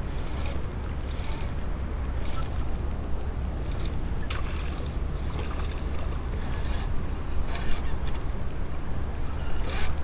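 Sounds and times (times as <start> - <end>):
fishing reel clicking: 0.0 - 10.0.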